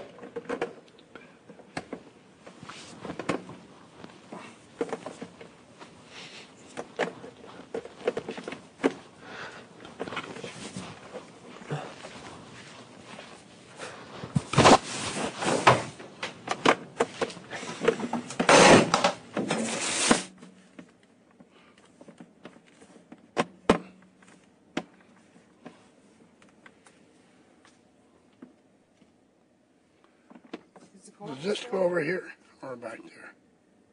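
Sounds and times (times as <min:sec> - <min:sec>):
rustling and knocking handling noise: 0:00.0 - 0:29.2.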